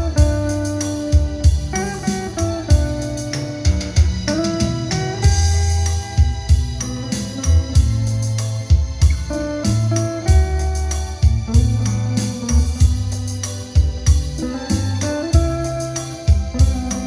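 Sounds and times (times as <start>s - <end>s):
low bass thumps: 0.0s - 17.0s.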